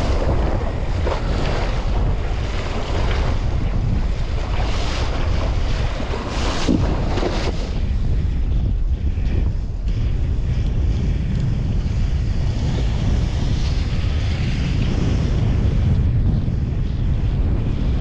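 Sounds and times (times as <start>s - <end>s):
rushing sea water: 0.0s - 18.0s
wind buffeting microphone: 0.0s - 18.0s.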